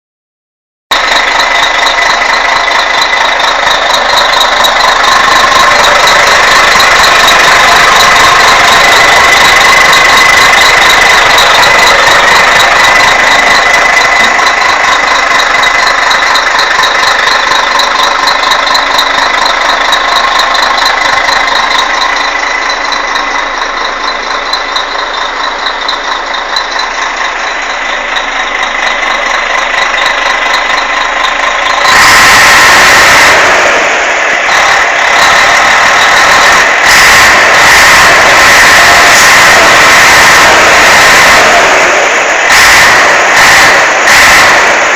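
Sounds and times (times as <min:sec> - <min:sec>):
bus engine running: 0:00.9 - 0:44.9.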